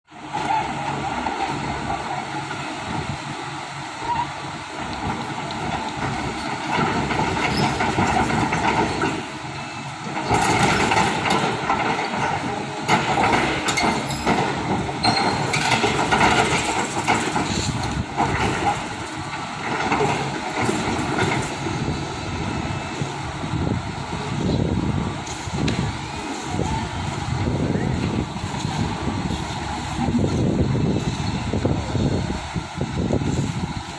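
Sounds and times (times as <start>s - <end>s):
heavy machinery running: 0.1s - 33.9s.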